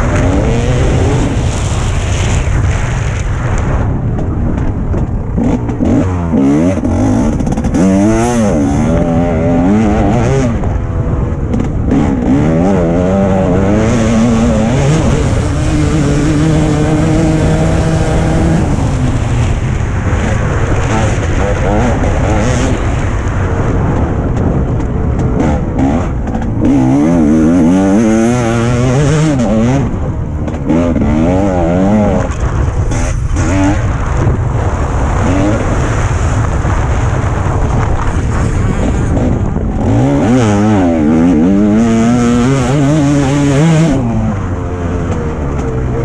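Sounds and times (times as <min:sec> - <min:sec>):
motocross bike engine revving: 0:00.0 - 0:03.2, 0:05.3 - 0:46.0.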